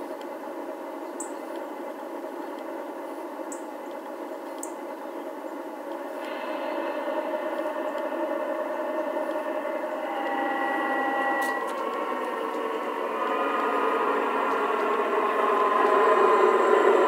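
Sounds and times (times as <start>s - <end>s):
model train rolling on track: 0.0s - 17.0s
toy diesel locomotive engine sound: 0.0s - 17.0s.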